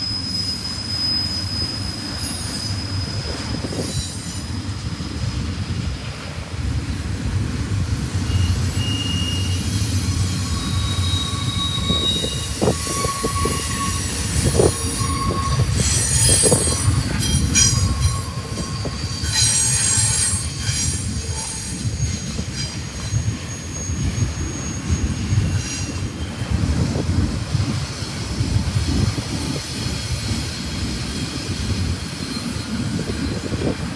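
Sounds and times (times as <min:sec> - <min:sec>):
high-pitched wheel squeal: 0:00.0 - 0:04.7, 0:08.2 - 0:26.6, 0:28.0 - 0:33.8
train wheels rumbling on rails: 0:00.0 - 0:33.9.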